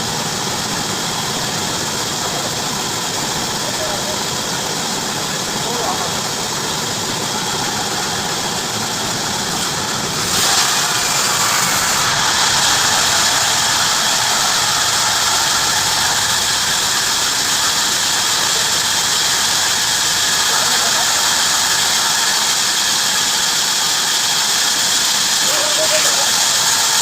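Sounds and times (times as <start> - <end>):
bandsaw cutting wood: 5.2 - 27.0.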